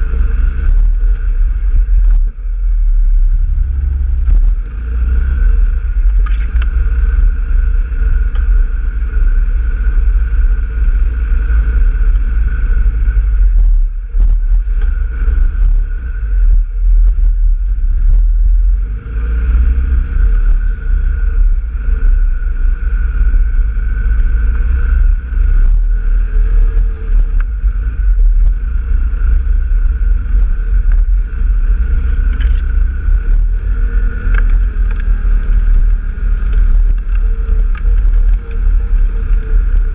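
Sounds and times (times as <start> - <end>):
heavy low rumble: 0.0 - 39.9
off-road vehicle engine running: 0.0 - 39.9.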